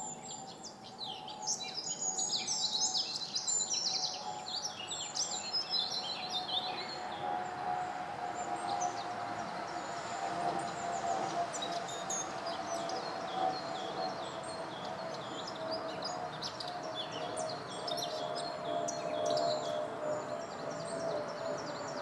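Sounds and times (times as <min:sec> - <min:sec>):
small birds chirping and trilling: 0:00.0 - 0:07.4, 0:10.5 - 0:22.0.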